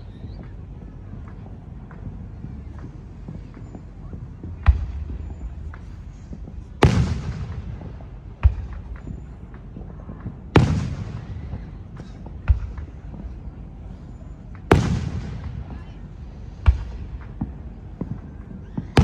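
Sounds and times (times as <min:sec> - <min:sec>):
faint firework pops: 0:00.0 - 0:19.0
fireworks booming: 0:00.0 - 0:19.0.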